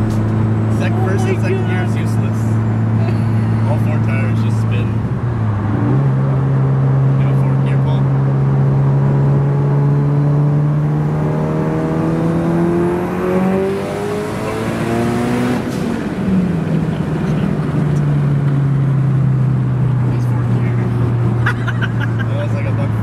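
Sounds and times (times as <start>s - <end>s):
turbocharged car engine accelerating: 0.0s - 23.0s.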